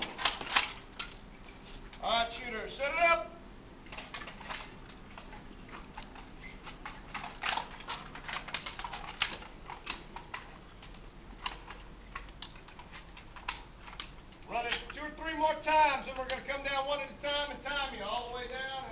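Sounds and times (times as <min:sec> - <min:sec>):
rifle and gear clicking and rattling: 0:00.0 - 0:02.0, 0:03.8 - 0:18.9.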